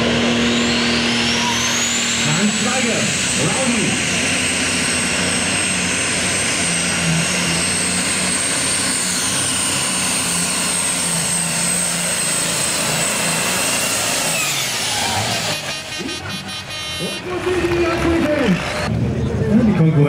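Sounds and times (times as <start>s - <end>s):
high whine: 0.0s - 19.0s
diesel tractor engine at full load: 0.0s - 20.0s.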